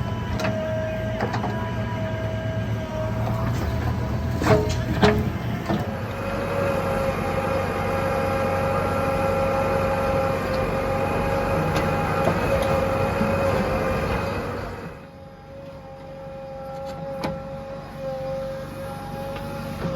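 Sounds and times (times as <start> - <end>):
diesel machinery engine running: 0.0 - 19.9.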